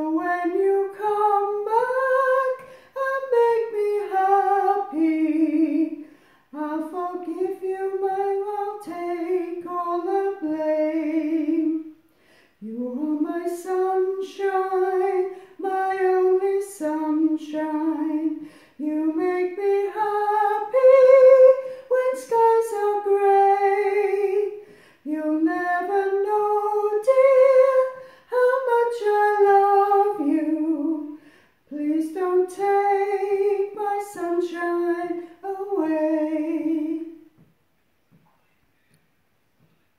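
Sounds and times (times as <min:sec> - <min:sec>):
woman singing alone: 0:00.0 - 0:12.0, 0:12.6 - 0:37.4.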